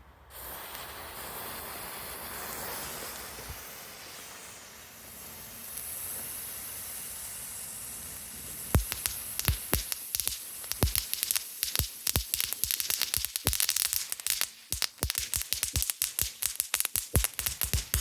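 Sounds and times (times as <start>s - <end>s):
firework hissing: 0.2s - 18.0s
firework crackling: 0.3s - 18.0s.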